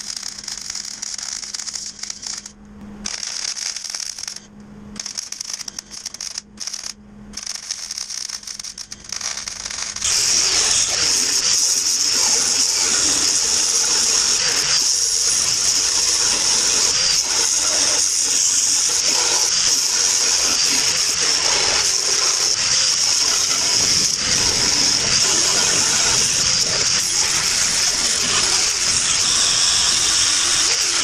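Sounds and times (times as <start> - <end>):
angle grinder grinding steel: 5.0 - 31.0.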